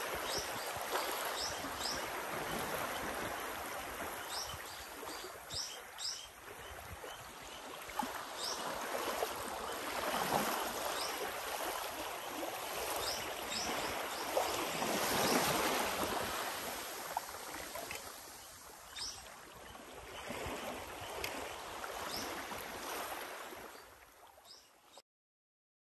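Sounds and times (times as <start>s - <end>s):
small waves lapping on beach: 0.0s - 25.0s.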